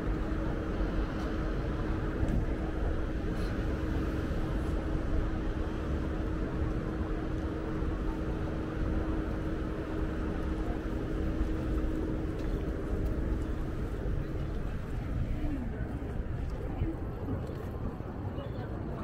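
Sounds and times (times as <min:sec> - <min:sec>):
city traffic rumble: 0:00.0 - 0:19.0
constant hum: 0:00.0 - 0:19.0.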